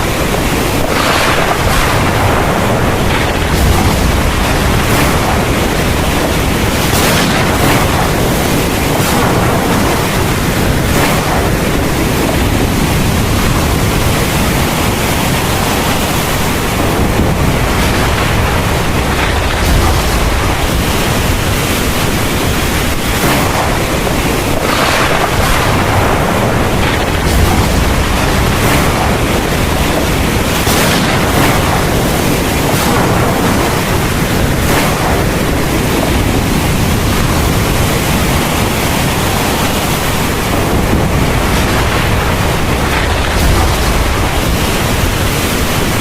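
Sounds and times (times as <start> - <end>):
heavy rain pouring: 0.0 - 46.0
low rumble: 0.0 - 46.0.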